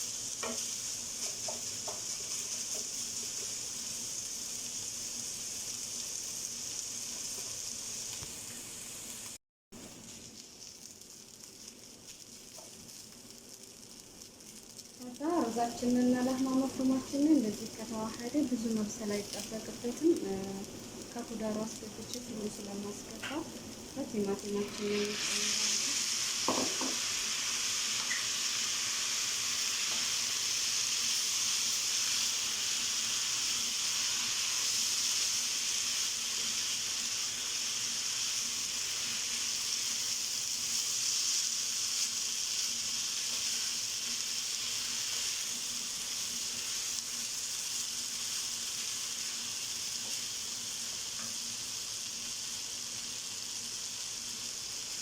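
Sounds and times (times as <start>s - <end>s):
meat and rice sizzling in a pan: 0.0s - 55.0s.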